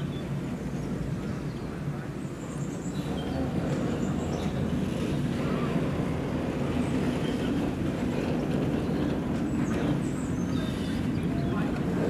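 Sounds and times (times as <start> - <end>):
steam locomotive rumbling: 0.0 - 12.0.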